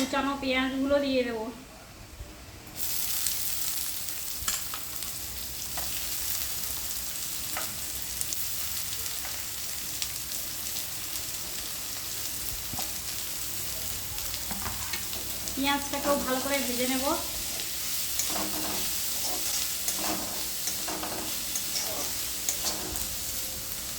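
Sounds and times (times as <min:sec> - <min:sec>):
onions sizzling in hot oil: 0:02.7 - 0:23.9.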